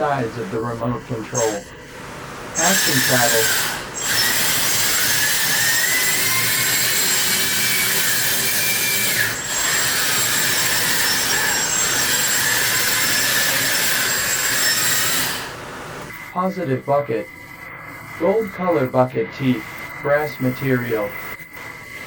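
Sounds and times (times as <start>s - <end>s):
hydraulic pump hissing whine: 0.0s - 22.0s.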